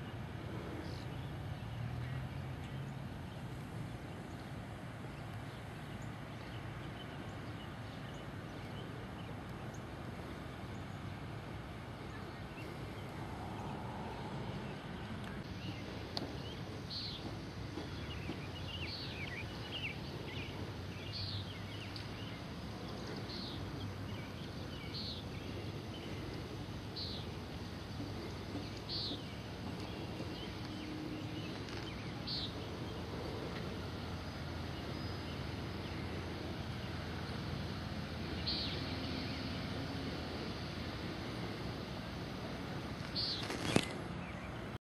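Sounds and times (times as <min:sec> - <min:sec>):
low background rumble: 0:00.0 - 0:43.6.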